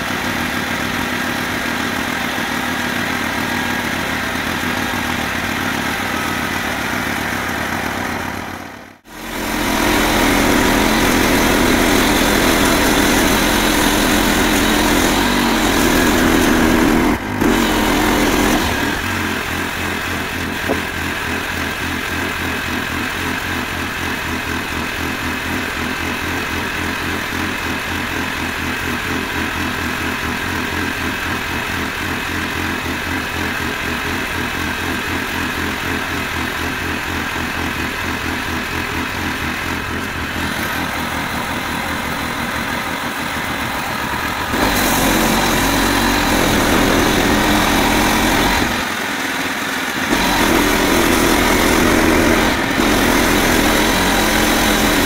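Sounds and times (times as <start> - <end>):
gas engine idling: 0.0 - 55.0.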